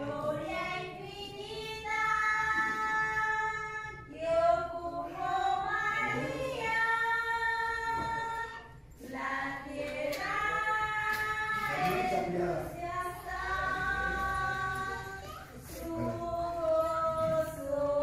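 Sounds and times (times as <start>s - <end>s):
high voices singing slowly: 0.0s - 18.0s.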